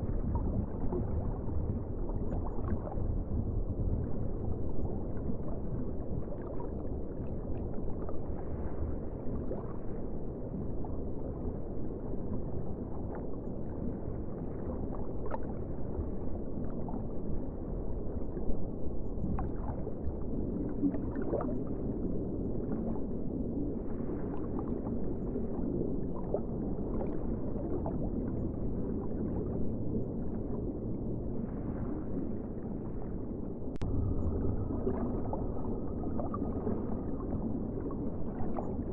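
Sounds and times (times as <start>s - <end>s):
muffled ocean water wash: 0.0s - 38.9s
water gurgles and clicks: 0.0s - 38.9s.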